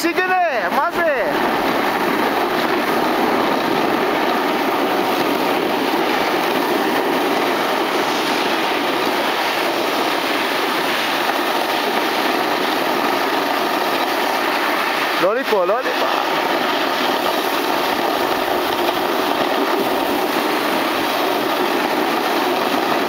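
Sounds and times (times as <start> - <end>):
snowboards scraping on snow: 0.0 - 15.2, 15.8 - 23.0
wind on microphone: 1.0 - 15.2, 15.9 - 23.0.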